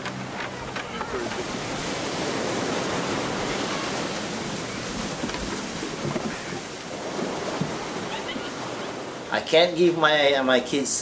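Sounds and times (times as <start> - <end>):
ocean waves washing: 0.0 - 11.0.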